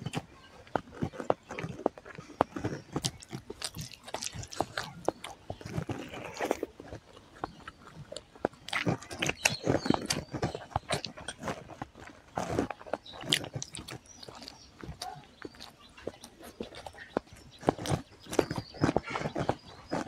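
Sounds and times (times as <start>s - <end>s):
mouth clicks and smacks: 0.0s - 20.0s
person chewing close up: 0.0s - 20.0s.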